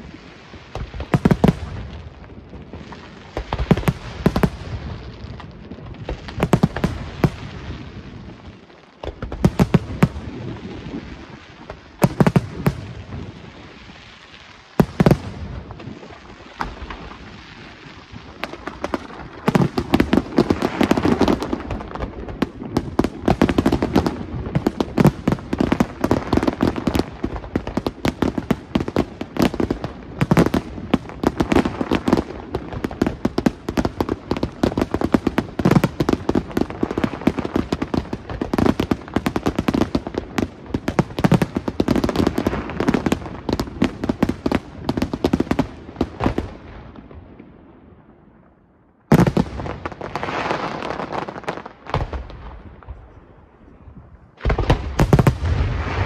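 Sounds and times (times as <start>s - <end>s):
fireworks bursting: 0.0s - 47.5s, 49.1s - 56.0s.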